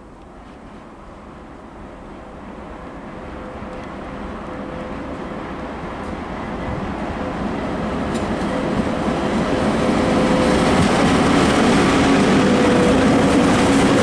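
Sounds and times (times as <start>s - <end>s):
train rumble and rail noise: 0.0s - 14.0s.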